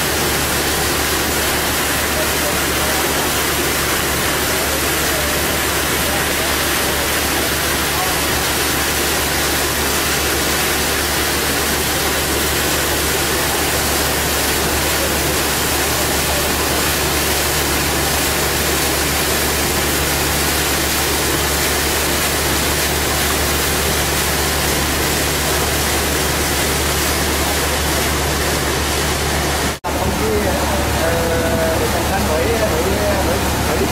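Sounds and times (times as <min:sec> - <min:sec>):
boat rushing noise: 0:00.0 - 0:33.9.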